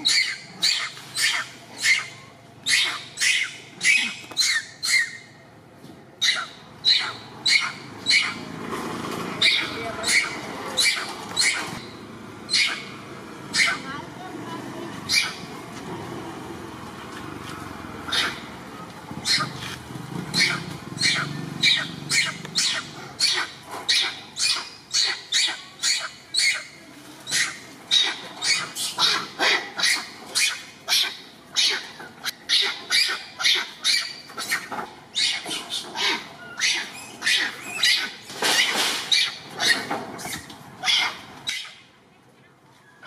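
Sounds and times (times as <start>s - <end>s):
macaque high-pitched calls: 0.0s - 5.4s, 6.2s - 8.5s, 9.4s - 14.0s, 15.0s - 15.6s, 18.0s - 41.9s.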